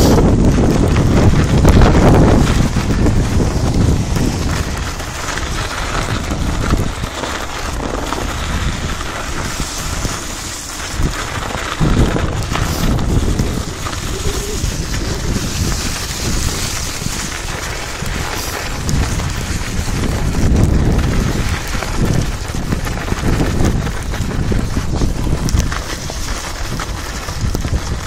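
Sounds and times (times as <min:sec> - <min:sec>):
tyres rolling through snow: 0:00.0 - 0:28.0
wind buffeting microphone: 0:00.0 - 0:28.0.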